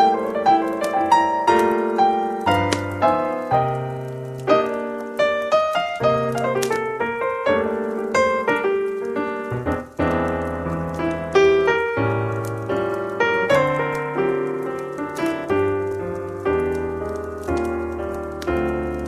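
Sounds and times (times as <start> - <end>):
slow jazz piano: 0.0 - 19.0.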